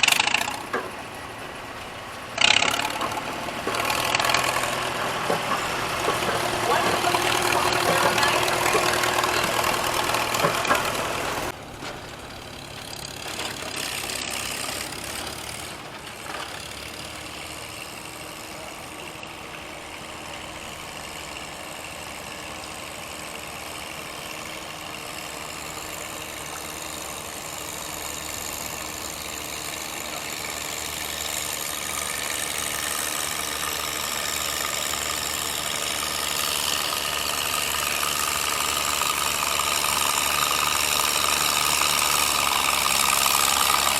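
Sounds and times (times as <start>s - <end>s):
gas tractor engine running: 0.0s - 43.9s.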